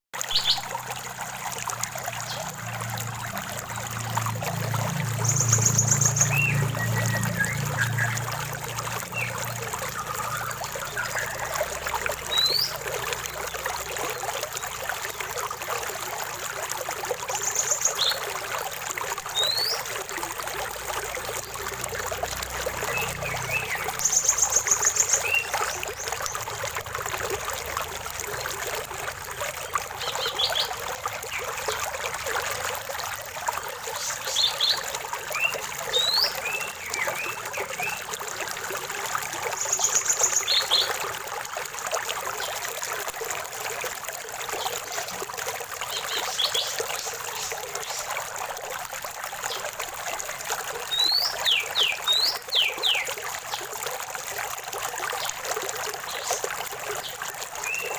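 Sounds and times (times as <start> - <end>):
stream trickling: 0.2 - 57.9.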